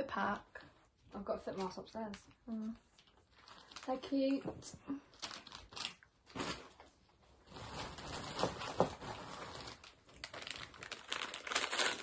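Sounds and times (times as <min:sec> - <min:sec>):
wrapping paper crinkling: 0:01.5 - 0:12.0.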